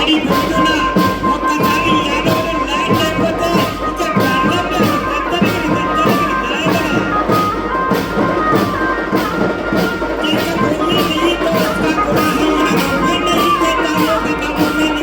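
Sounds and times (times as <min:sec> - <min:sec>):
high melody line: 0:00.0 - 0:15.0
steady drum beat: 0:00.0 - 0:15.0.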